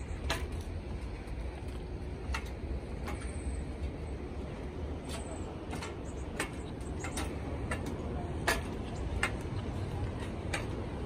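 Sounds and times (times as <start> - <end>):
footsteps on metal stairs: 0.0 - 4.1, 4.8 - 11.0
low steady rumble: 0.0 - 11.0.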